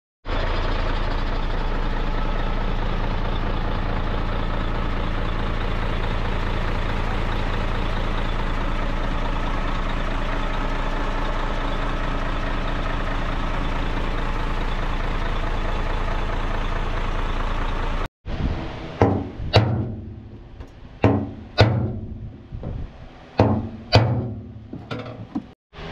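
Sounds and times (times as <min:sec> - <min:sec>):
truck diesel engine idling: 0:00.2 - 0:25.9.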